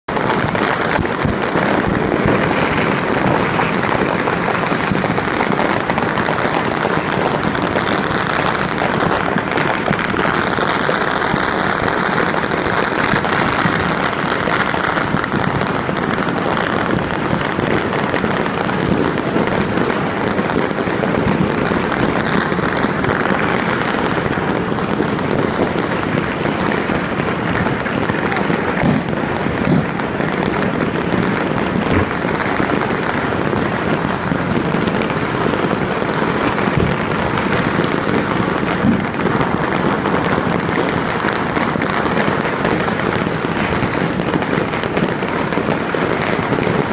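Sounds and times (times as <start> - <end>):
firecrackers crackling: 0.0 - 46.9.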